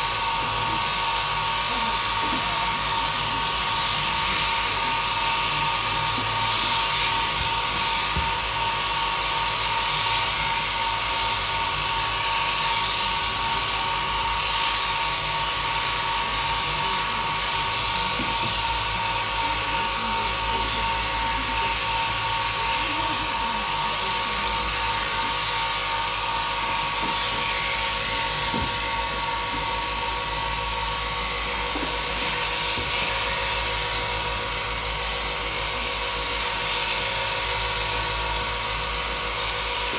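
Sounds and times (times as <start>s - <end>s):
sheep shears whining: 0.0s - 39.9s.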